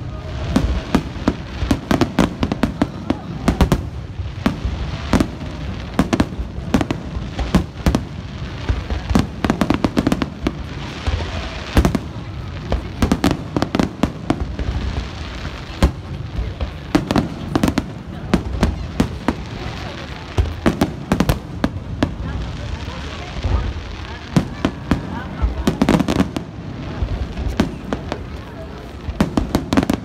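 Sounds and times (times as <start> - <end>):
crackling hiss: 0.0 - 30.0
fireworks bursting: 0.0 - 30.0.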